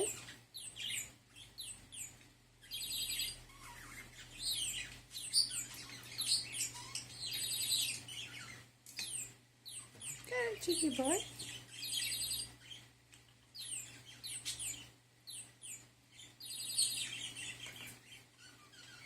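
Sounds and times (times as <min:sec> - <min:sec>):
budgerigar chirping: 0:00.0 - 0:12.9, 0:13.5 - 0:19.0.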